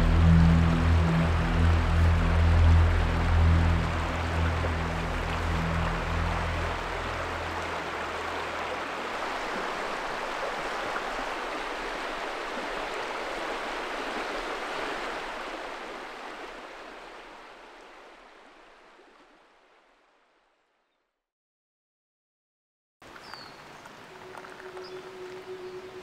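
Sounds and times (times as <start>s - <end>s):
running water: 0.0s - 19.8s, 23.0s - 26.0s.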